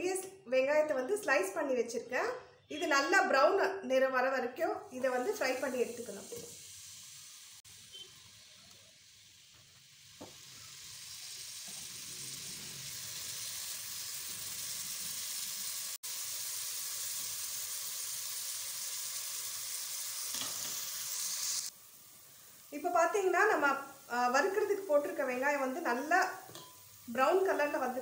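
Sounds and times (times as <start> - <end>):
onions sizzling in hot oil: 4.9 - 28.0.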